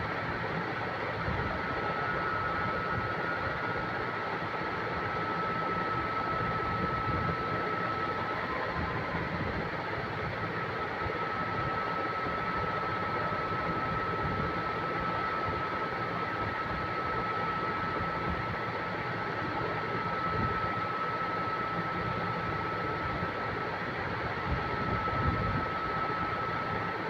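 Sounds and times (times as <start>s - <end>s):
machine whining: 0.0s - 27.0s.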